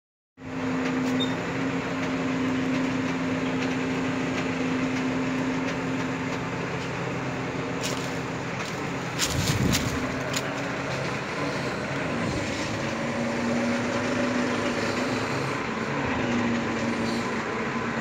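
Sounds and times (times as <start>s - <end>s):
hydraulic mechanical hum: 0.4s - 18.0s
truck engine running: 0.4s - 18.0s.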